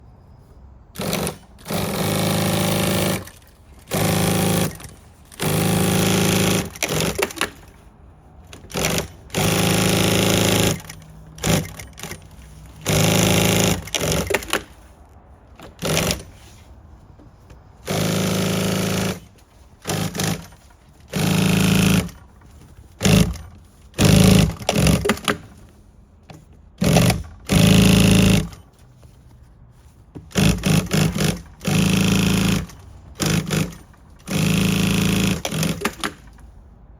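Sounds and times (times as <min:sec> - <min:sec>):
sewing machine stitching in bursts: 0:01.0 - 0:07.8, 0:08.5 - 0:14.9, 0:15.6 - 0:16.6, 0:17.8 - 0:25.7, 0:26.8 - 0:28.8, 0:30.2 - 0:36.4.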